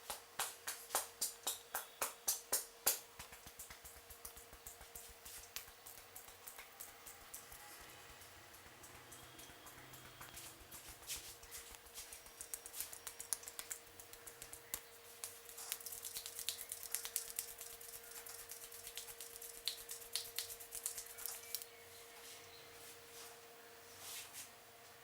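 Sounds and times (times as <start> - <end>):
hands tapping on head and hair: 0.0 - 21.7
faint steady hum: 0.0 - 25.0.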